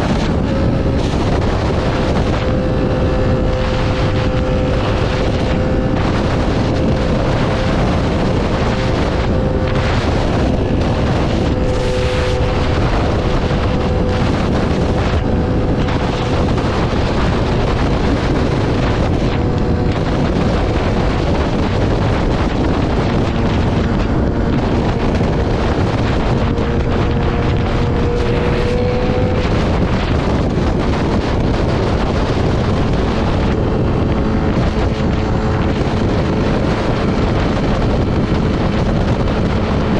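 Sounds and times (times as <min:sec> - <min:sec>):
motorcycle engine: 0:00.0 - 0:39.9
wind rush on microphone: 0:00.0 - 0:39.9.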